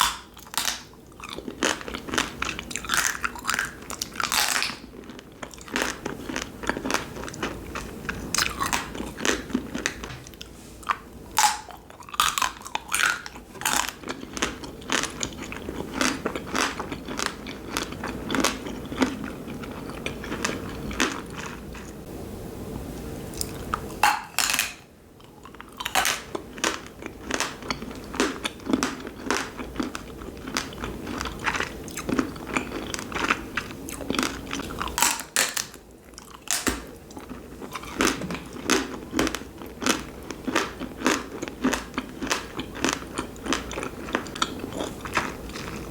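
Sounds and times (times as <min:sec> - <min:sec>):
crunching and chewing candy: 0:00.0 - 0:22.0, 0:23.4 - 0:45.9.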